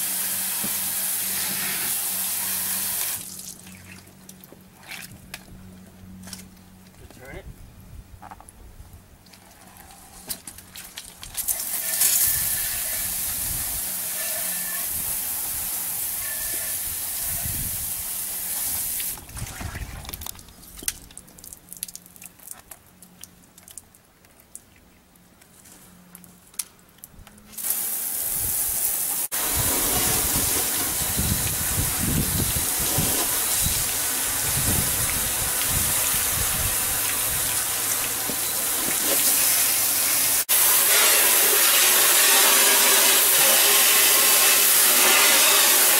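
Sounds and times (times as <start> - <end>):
water spraying on pavement: 0.0 - 5.1, 10.6 - 23.9, 27.5 - 45.9.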